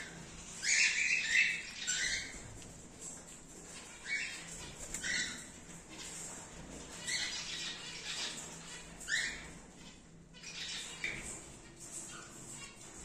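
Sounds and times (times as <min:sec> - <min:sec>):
cockatiels chirping: 0:00.0 - 0:02.5, 0:03.7 - 0:12.9.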